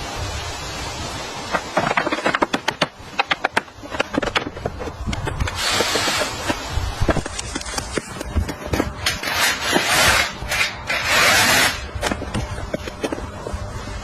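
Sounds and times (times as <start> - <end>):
rushing scraping noise: 1.5 - 14.0.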